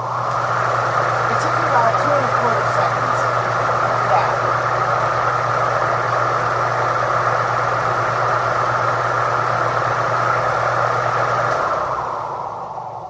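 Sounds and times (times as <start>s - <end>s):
motor hum: 0.0s - 13.0s
rush of air from fan blades: 0.0s - 13.0s.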